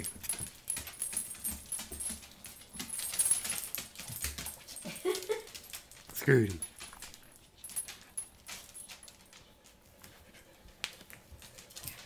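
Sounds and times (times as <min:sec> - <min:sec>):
collar tags jingling: 0:00.0 - 0:10.7, 0:11.3 - 0:12.0
dogs scuffling: 0:00.0 - 0:12.0.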